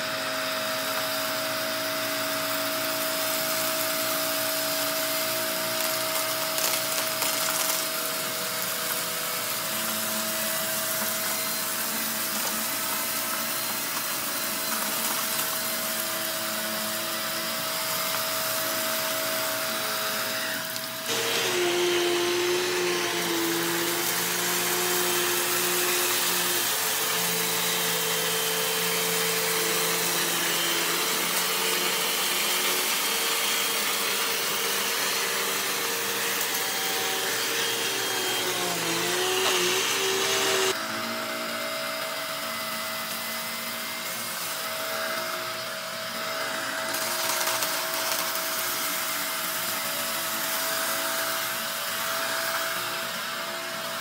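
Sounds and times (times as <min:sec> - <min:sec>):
quieter vacuum with high tone: 0:00.0 - 0:54.0
upright vacuum running: 0:00.0 - 0:54.0.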